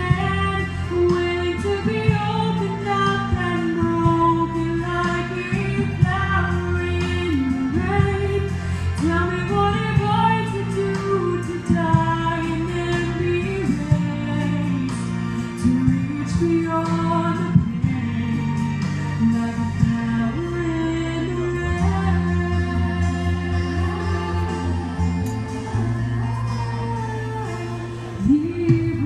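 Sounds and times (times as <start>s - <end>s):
instrumental music with a steady beat: 0.0s - 29.0s
woman singing into a microphone: 0.0s - 29.0s.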